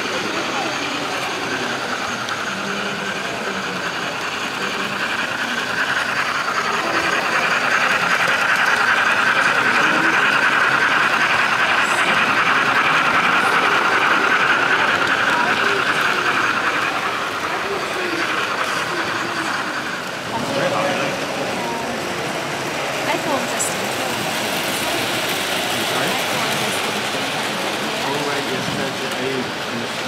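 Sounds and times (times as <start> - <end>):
model train motors whirring: 0.0 - 30.0.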